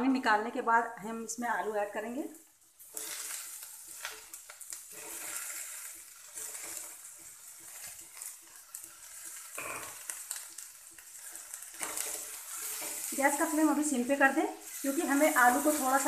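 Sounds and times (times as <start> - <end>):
potatoes sizzling in hot oil: 1.2 - 16.0.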